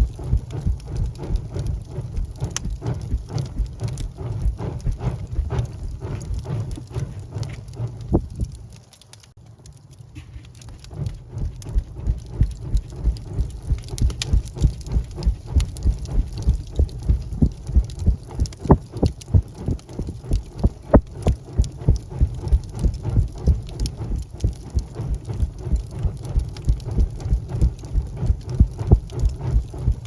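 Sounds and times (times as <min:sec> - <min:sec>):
low pulsing rumble: 0:00.0 - 0:30.0
wood fire crackling: 0:00.0 - 0:30.0.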